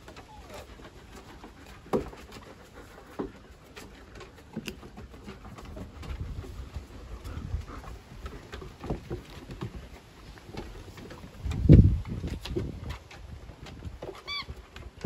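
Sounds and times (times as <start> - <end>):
paws clicking on wooden deck: 0.0 - 15.0.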